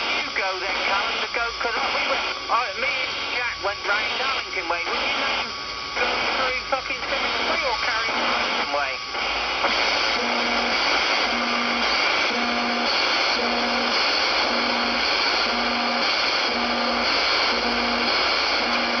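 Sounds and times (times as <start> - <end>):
pulsing tone interference: 0.0 - 19.0
radio receiver hiss: 0.0 - 19.0.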